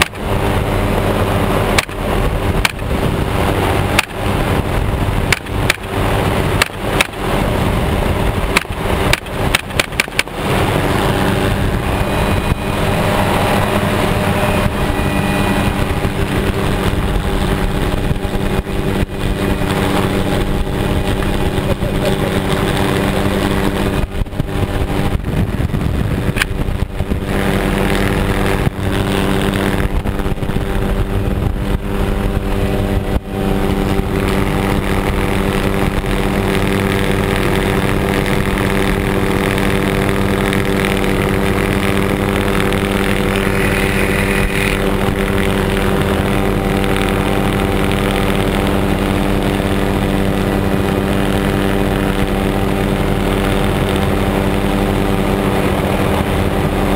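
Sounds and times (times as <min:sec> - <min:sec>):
helicopter engine and rotor: 0:00.0 - 0:56.9
wind on microphone: 0:00.0 - 0:56.9.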